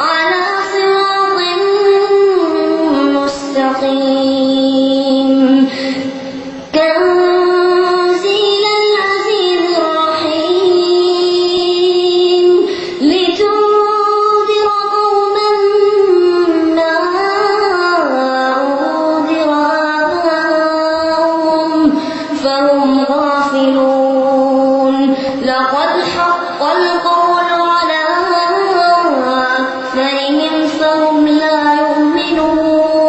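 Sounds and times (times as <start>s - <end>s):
boy chanting recitation: 0.0s - 33.0s.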